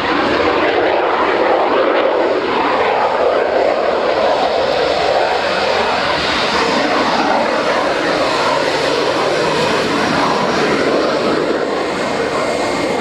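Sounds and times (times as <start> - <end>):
aircraft engine noise: 0.0 - 13.0.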